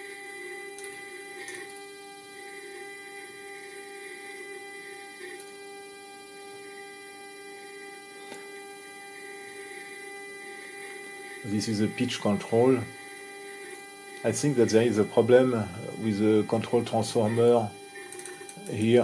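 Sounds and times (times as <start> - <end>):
electrical hum of instrument: 0.0 - 19.0.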